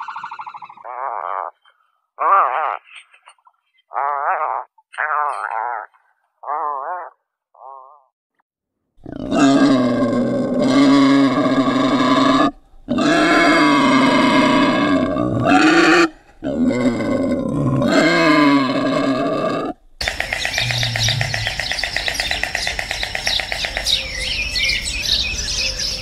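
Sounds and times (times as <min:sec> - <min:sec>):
boar calling: 0:00.0 - 0:08.1, 0:09.0 - 0:24.4.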